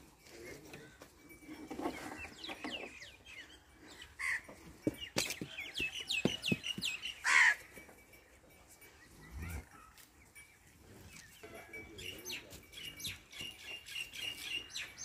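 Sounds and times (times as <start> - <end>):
small birds chirping: 0.4 - 7.5, 8.1 - 15.0.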